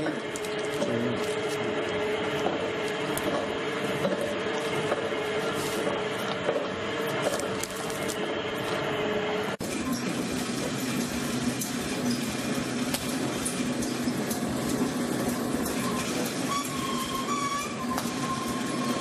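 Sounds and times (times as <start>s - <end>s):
dough mixer motor hum: 0.0s - 19.0s.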